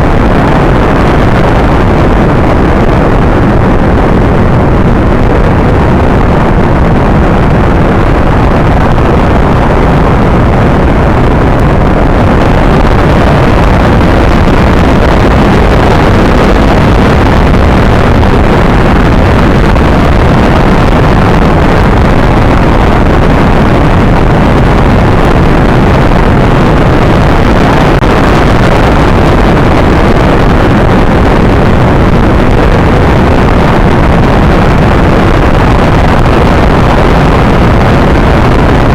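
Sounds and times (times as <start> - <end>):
rocket engine roar: 0.0 - 38.9.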